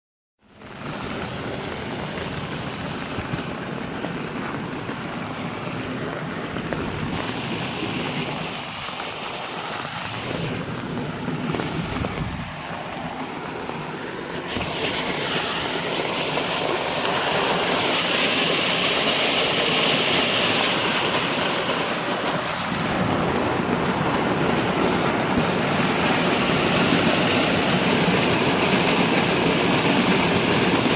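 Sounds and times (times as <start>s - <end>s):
waterfall rushing: 0.6s - 30.9s.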